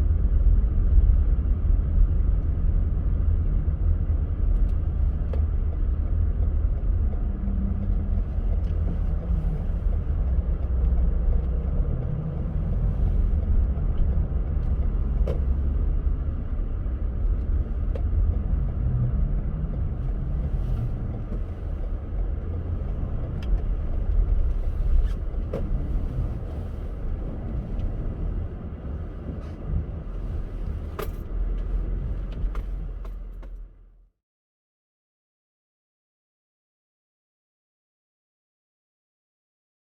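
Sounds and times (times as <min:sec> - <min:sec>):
tyre and engine rumble: 0:00.1 - 0:34.0.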